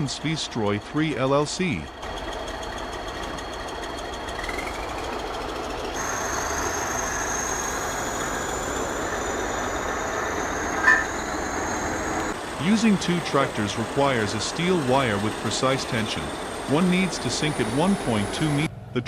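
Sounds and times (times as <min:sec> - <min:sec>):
high whine: 0:00.0 - 0:18.7
truck engine under load: 0:00.0 - 0:19.0.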